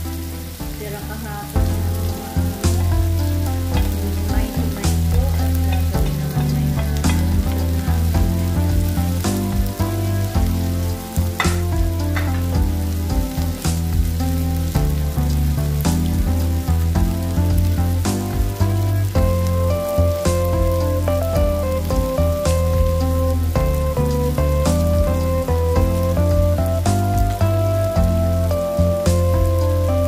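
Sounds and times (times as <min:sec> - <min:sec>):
meat sizzling in a pan: 0:00.0 - 0:30.0
instrumental music with beat: 0:01.6 - 0:30.0.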